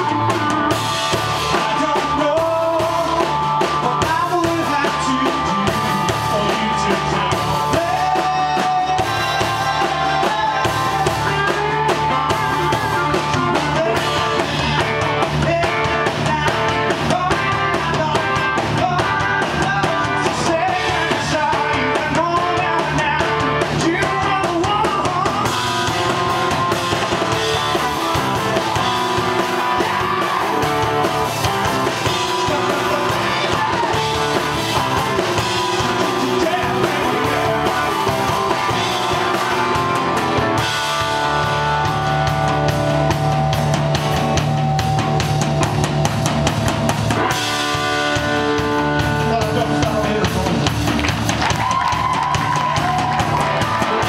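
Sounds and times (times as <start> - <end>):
man singing: 0.0 - 42.3, 47.2 - 50.8
drum kit: 0.0 - 54.0
electric guitar: 0.0 - 54.0.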